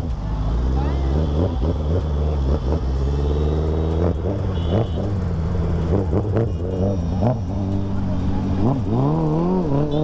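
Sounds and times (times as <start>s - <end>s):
motorcycle engine running at low revs: 0.0s - 10.0s.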